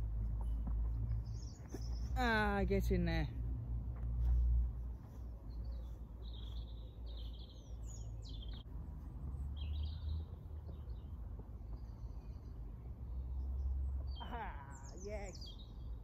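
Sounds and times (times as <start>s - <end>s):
small birds chirping: 0.0s - 3.3s, 4.2s - 16.0s.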